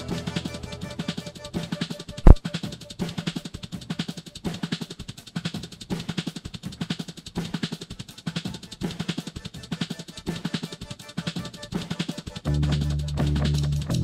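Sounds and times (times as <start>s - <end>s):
fast drum-kit beat: 0.0s - 14.0s.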